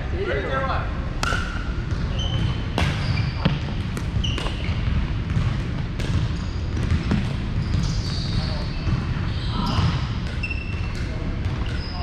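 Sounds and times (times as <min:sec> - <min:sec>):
ball bouncing on hardwood floor: 0:01.2 - 0:12.0
sneaker squeaks: 0:01.2 - 0:12.0.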